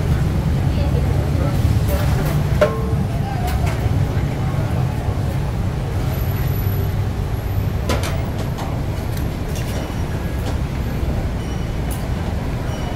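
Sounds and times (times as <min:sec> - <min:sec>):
city traffic rumble: 0:00.0 - 0:12.9.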